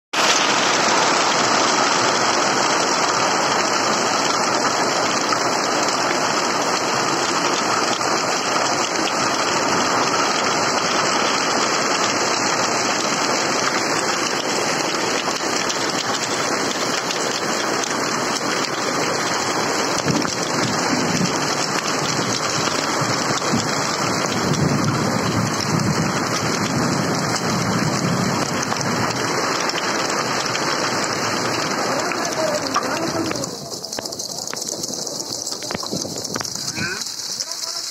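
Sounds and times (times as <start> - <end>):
rain and hail on concrete: 0.2 - 37.9.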